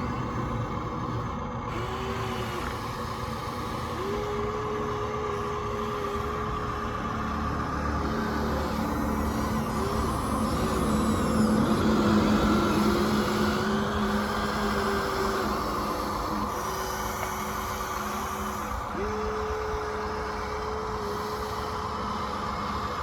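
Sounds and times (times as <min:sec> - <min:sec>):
steady hum: 0:00.0 - 0:23.0
toy electric motors whining: 0:00.0 - 0:23.0.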